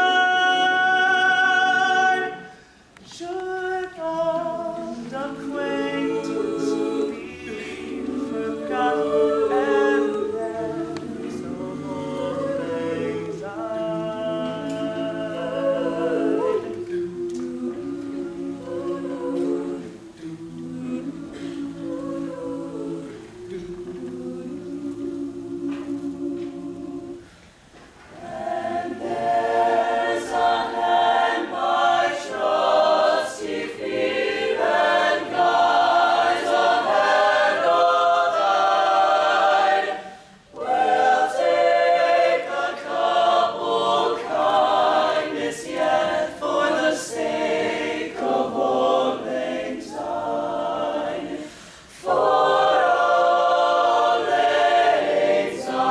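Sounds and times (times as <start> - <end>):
mixed choir singing: 0.0 - 55.9.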